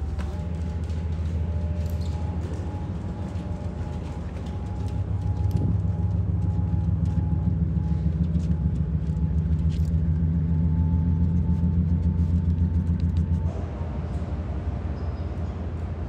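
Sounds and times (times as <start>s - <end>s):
ship engines droning: 0.0s - 16.0s.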